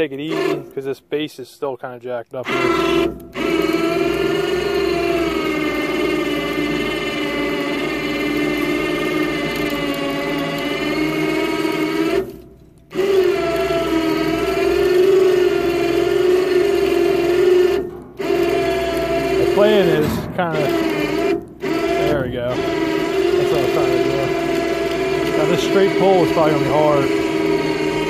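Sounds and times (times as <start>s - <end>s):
winch motor whining: 0.0s - 1.2s, 2.3s - 28.0s.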